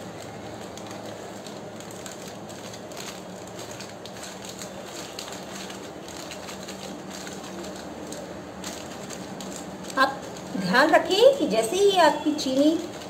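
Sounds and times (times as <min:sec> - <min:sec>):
low background hum: 0:00.0 - 0:13.0
plastic sheet crinkling: 0:00.0 - 0:13.0.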